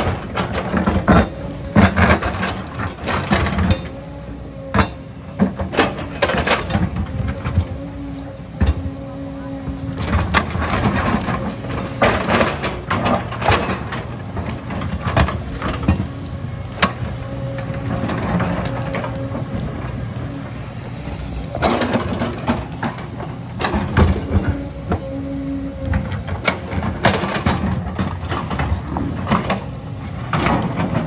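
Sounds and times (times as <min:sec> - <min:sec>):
excavator diesel engine droning: 0:00.0 - 0:31.0.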